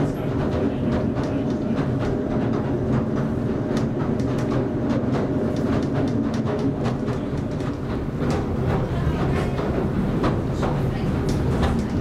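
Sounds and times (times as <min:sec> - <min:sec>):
train rumbling on track: 0:00.0 - 0:12.0
wheels clicking over rails: 0:00.0 - 0:12.0.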